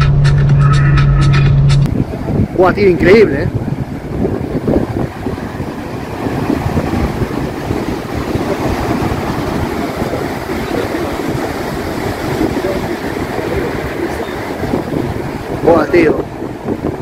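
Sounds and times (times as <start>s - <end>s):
wind gusting on microphone: 0.0s - 17.0s
surf breaking over rocks: 1.9s - 17.0s.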